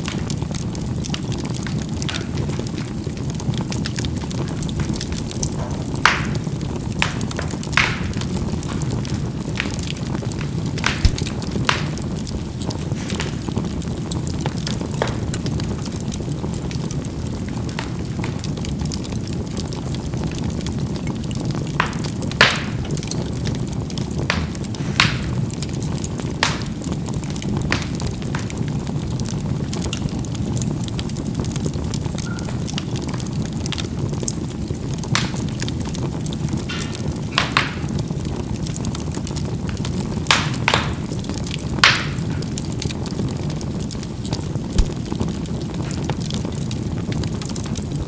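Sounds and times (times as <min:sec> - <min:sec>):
low rush of fire: 0:00.0 - 0:32.2, 0:41.1 - 0:48.0
embers popping: 0:00.0 - 0:48.0.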